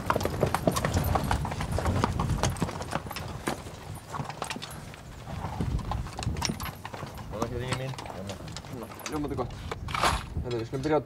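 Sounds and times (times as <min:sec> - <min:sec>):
horse hooves clopping on hard ground: 0:00.0 - 0:11.0.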